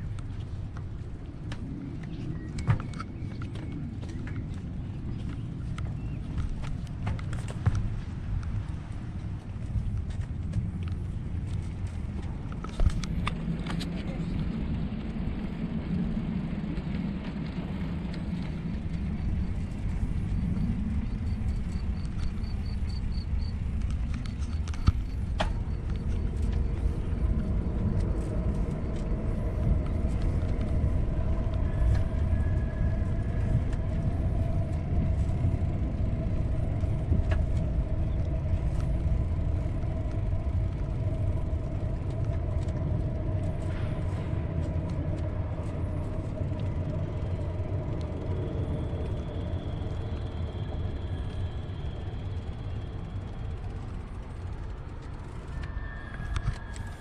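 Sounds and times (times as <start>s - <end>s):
faint steady hum: 0.0s - 57.0s
tyre noise on asphalt: 0.0s - 57.0s
wind buffeting microphone: 0.0s - 57.0s.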